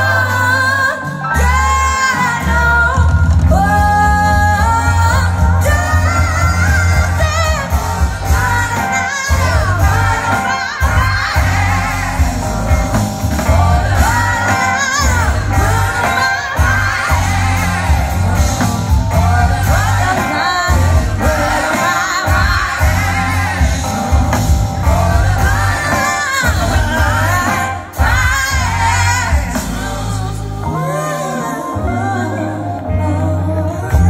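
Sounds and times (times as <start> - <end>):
heavy bass line: 0.0 - 31.1
lead singer singing: 0.0 - 34.0
live band and orchestra: 0.0 - 34.0.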